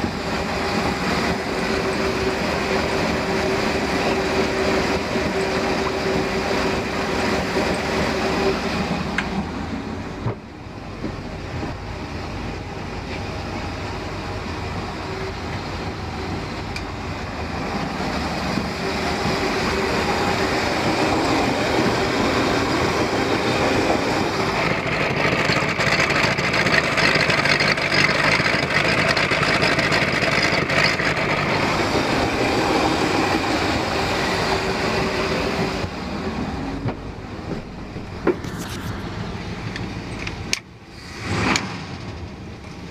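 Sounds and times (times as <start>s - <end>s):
boat engine idling: 0.0s - 40.9s.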